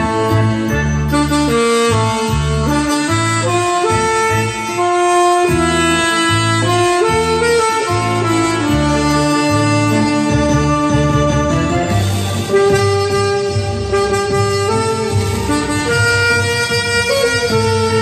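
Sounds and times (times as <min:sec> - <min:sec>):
alto saxophone melody: 0:00.0 - 0:18.0
backing track with bass line: 0:00.0 - 0:18.0.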